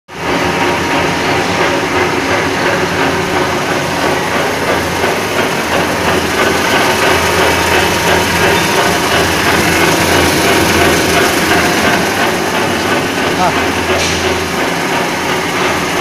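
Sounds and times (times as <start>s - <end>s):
mixer motor hum: 0.1s - 16.0s.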